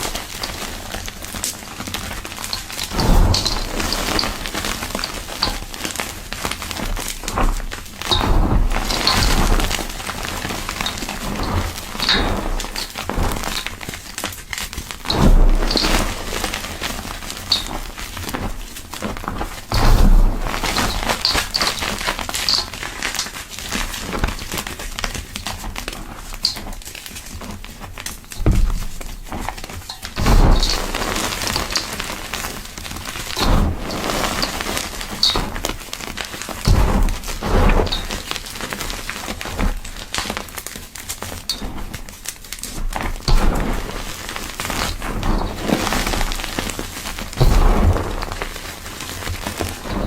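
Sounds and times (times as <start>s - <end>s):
heavy crunch: 0.0s - 23.1s, 28.4s - 50.0s
powder crumbled by hand crackling: 0.0s - 50.0s.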